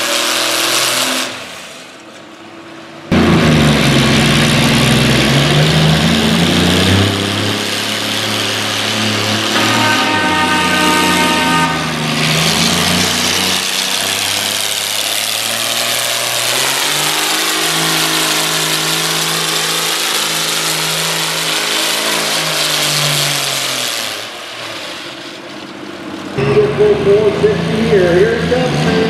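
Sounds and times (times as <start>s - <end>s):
tractor engine running under load: 0.0s - 29.0s.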